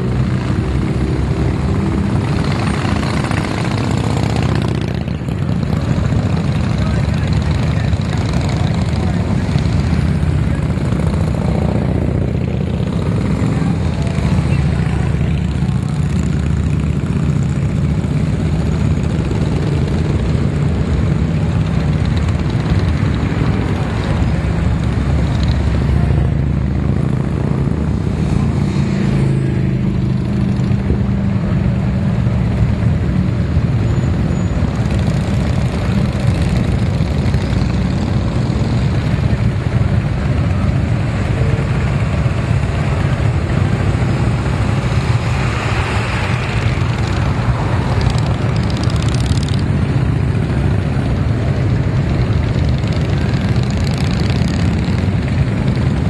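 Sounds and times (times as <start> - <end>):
traffic passing: 0.0 - 56.0.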